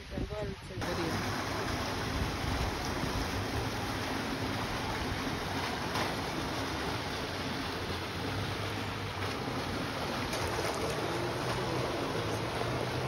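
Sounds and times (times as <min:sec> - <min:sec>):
water gushing and splashing: 0:00.0 - 0:13.0.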